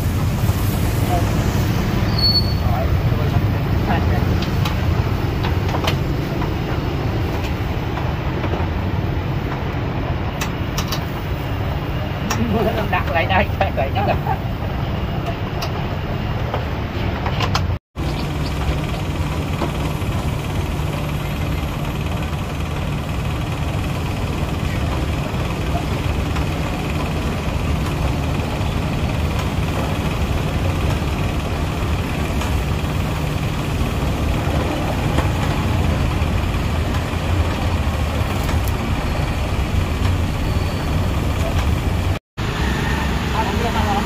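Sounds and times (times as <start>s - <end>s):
low mechanical rumble and hum: 0.0s - 44.0s.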